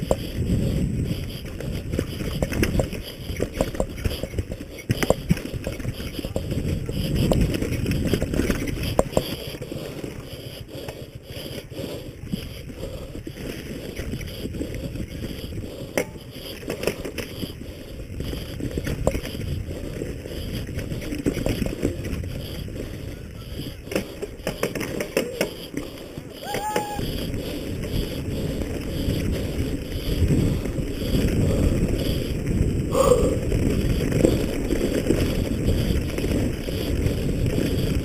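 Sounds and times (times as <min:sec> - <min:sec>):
bike knocks and rattles: 0:00.0 - 0:10.2, 0:13.3 - 0:38.0
wind buffeting microphone: 0:00.0 - 0:38.0.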